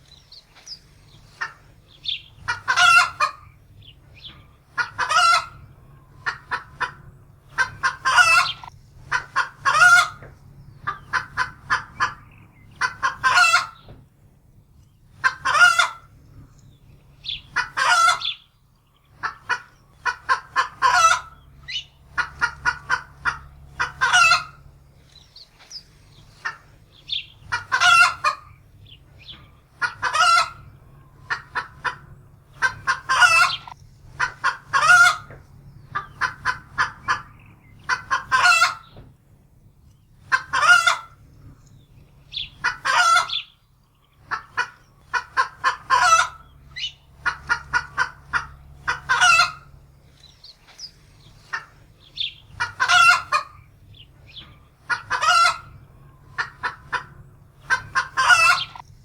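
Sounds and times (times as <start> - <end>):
hen alarm cackle: 1.4 - 13.9, 15.2 - 16.1, 17.2 - 18.4, 19.1 - 39.0, 40.2 - 41.2, 42.2 - 43.6, 44.2 - 58.8.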